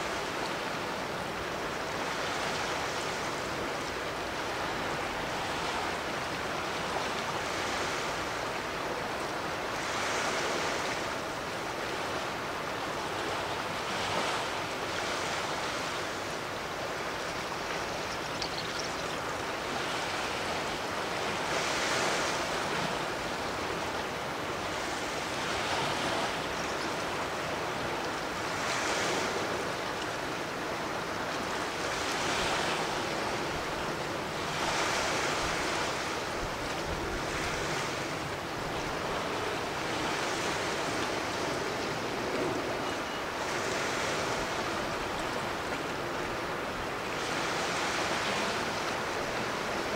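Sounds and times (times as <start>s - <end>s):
sea waves washing in: 0.0s - 49.9s.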